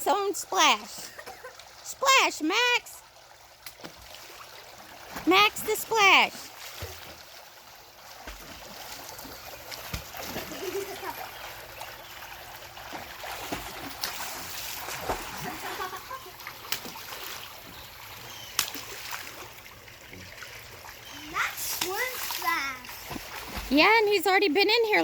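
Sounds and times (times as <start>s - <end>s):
water splashing: 0.0s - 25.0s.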